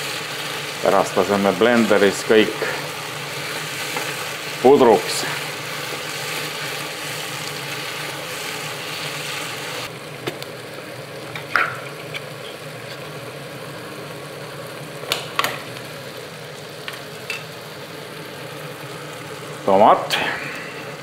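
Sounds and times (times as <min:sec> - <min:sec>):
vegetables sizzling in pan: 0:00.0 - 0:21.0.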